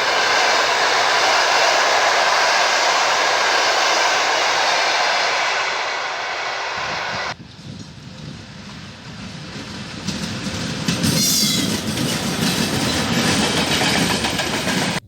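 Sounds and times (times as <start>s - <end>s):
approaching train rumble: 0.0s - 15.0s
diesel locomotive roaring: 0.0s - 15.0s.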